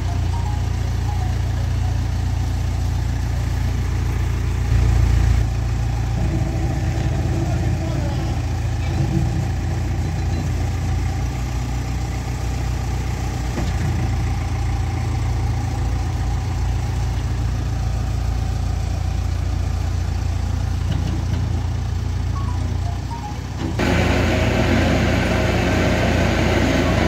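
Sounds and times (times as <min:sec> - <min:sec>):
diesel engine running at low revs: 0:00.0 - 0:27.0.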